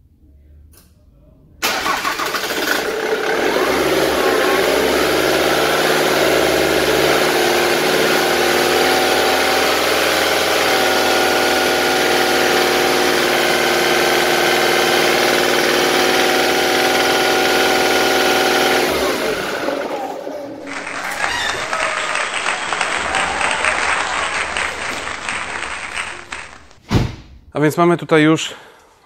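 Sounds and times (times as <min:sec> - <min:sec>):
diesel engine idling: 0:01.6 - 0:26.7.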